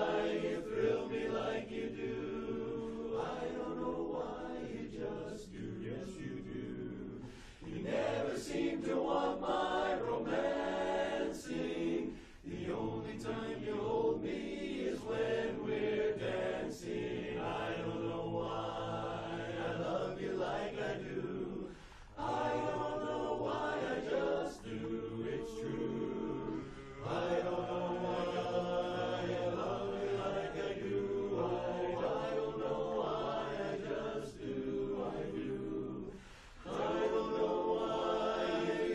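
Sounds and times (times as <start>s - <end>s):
chorus singing in harmony: 0.0s - 38.9s.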